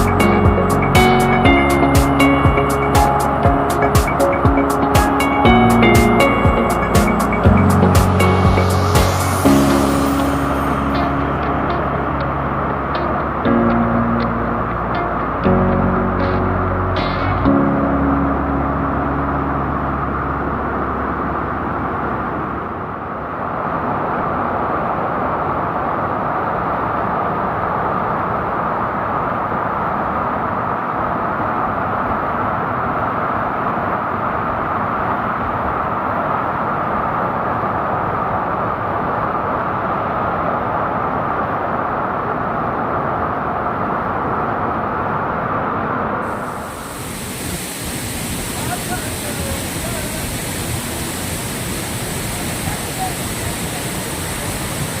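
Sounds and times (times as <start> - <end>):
waterfall roaring: 0.0 - 16.4, 19.1 - 55.0.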